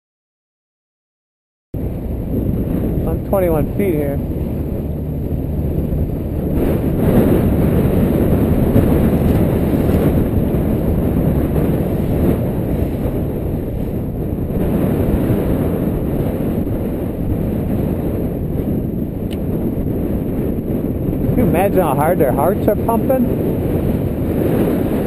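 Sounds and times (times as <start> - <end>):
wind buffeting microphone: 1.8 - 25.0.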